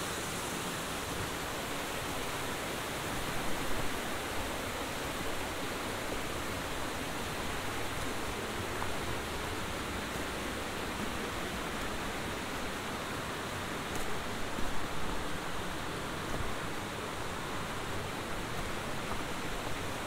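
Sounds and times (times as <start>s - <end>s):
rocky mountain stream rushing: 0.0s - 20.0s.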